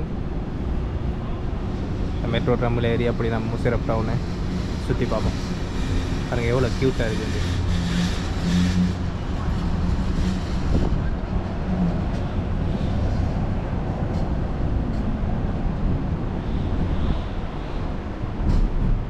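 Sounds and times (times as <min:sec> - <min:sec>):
tram rumbling: 0:00.0 - 0:19.0
wind on microphone: 0:00.0 - 0:19.0.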